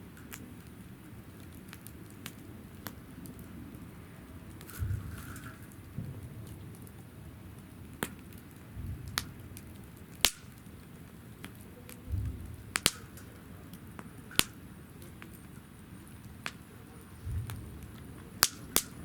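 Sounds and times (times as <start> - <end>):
campfire crackling: 0.0 - 19.0
low rumbles from flames: 0.0 - 19.0.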